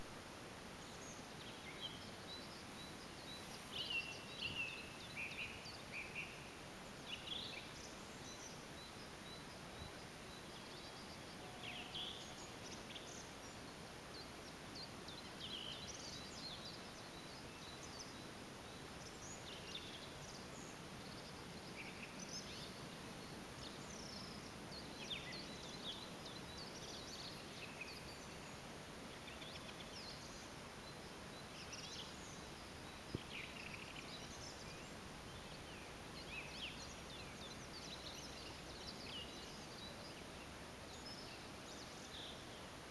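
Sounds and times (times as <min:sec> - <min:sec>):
songbirds chirping and trilling: 0:00.0 - 0:42.9
steady background hiss: 0:00.0 - 0:42.9.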